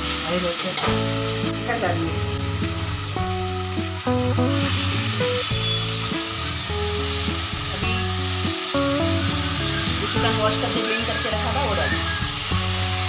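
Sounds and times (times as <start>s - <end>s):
chicken sizzling in oil: 0.0s - 13.0s
background music with bass: 0.9s - 13.0s.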